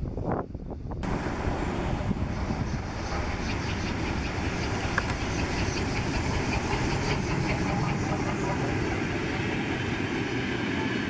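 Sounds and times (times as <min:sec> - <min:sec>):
steam locomotive rumbling: 0:00.9 - 0:11.0.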